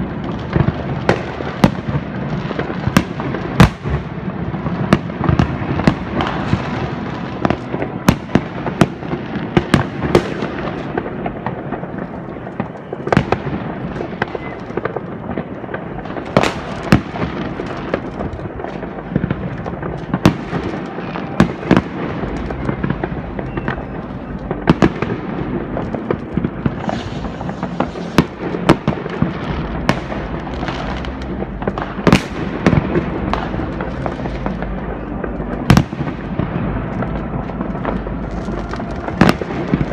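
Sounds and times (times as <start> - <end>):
firecracker bangs: 0.0 - 39.9
fireworks crackling: 0.0 - 39.9.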